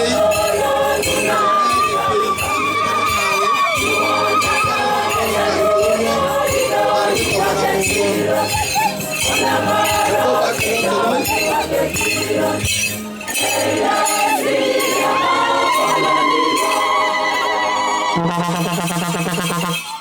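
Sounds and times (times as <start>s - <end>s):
choir singing a hymn: 0.0s - 18.2s
instrumental accompaniment: 0.0s - 20.0s.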